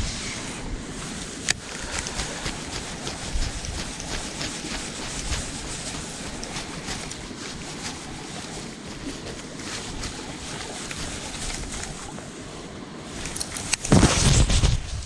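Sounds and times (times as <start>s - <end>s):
wind: 0.0s - 15.0s
water around kayak: 0.8s - 14.5s.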